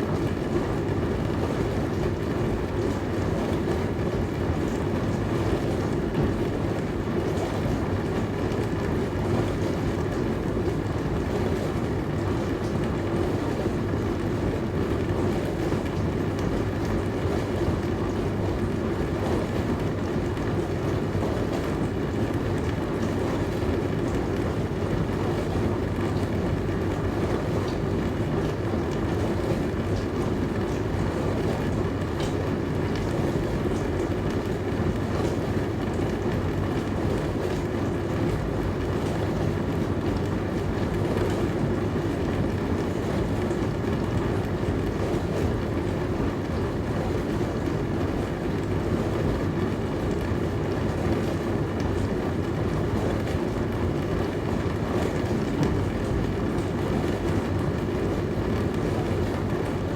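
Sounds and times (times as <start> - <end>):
dishwasher motor hum: 0.0 - 59.9.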